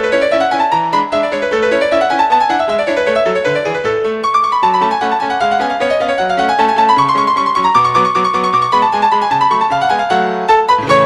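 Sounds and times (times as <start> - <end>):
lively piano music: 0.0 - 11.0.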